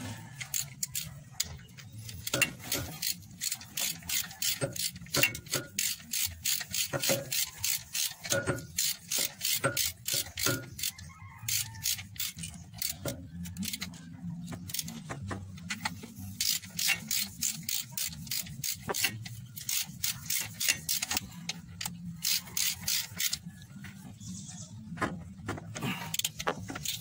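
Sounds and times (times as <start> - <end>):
ratchet wrench clicking: 0.4 - 14.0, 14.7 - 15.0, 15.6 - 23.4, 26.0 - 27.0.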